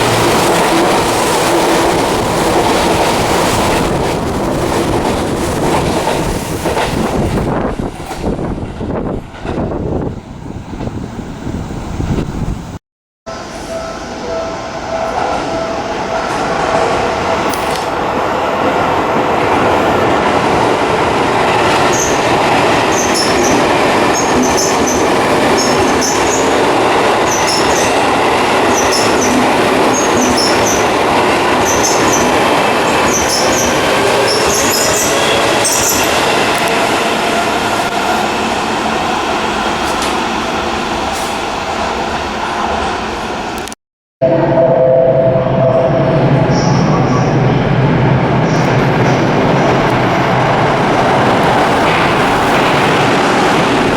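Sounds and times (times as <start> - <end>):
train wheels rumbling on rail: 0.0 - 43.8, 45.6 - 53.9.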